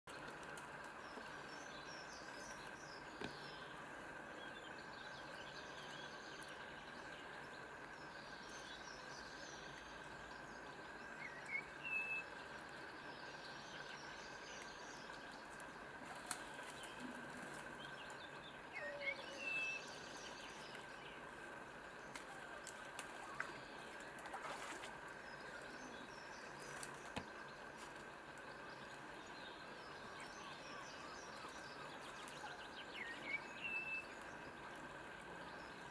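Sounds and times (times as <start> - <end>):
faint birdsong: 0.1 - 35.9.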